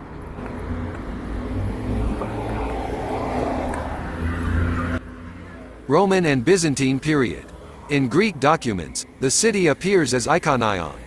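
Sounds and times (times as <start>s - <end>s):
cars driving by: 0.0s - 11.0s.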